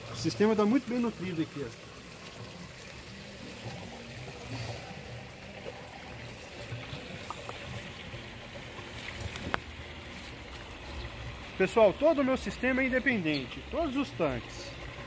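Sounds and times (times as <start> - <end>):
water running and trickling: 0.0 - 15.0.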